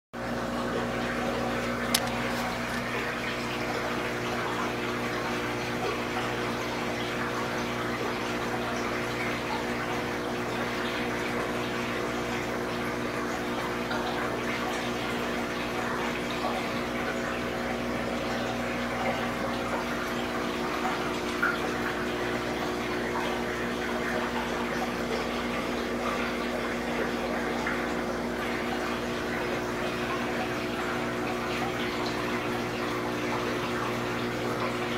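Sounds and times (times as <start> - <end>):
pump humming: 0.2 - 34.9
water splashing and trickling: 0.3 - 34.9.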